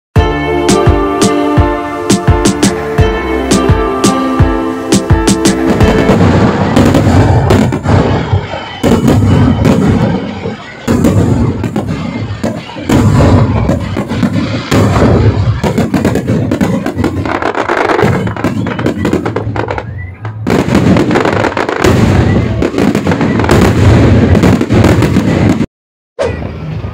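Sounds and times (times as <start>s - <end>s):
fireworks bursts and crackling: 0.2s - 26.9s.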